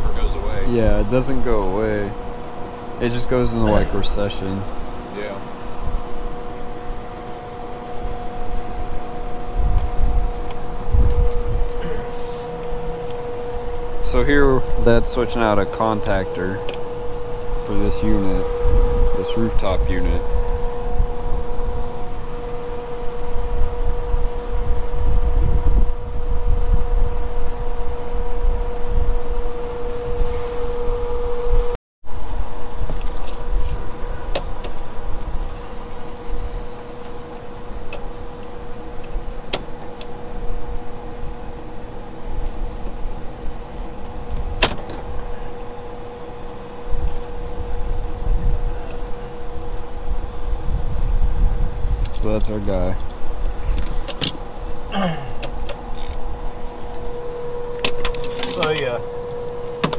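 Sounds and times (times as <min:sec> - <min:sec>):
air conditioner humming: 0:00.0 - 0:59.9.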